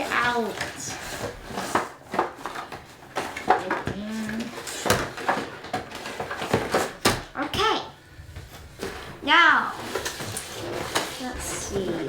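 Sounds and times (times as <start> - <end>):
plastic toy parts clattering: 0.0 - 7.4, 8.8 - 12.0.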